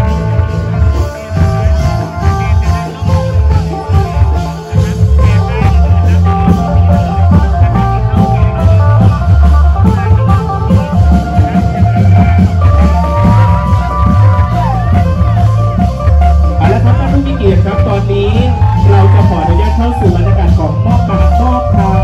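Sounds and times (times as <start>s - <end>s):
music with heavy bass beat: 0.0s - 22.0s
plucked-string lead melody: 0.0s - 22.0s.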